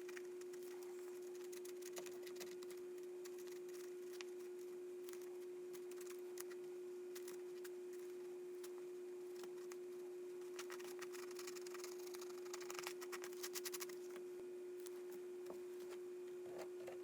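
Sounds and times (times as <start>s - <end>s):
faint ticks and scratches: 0.0s - 17.0s
steady single-pitched hum: 0.0s - 17.0s.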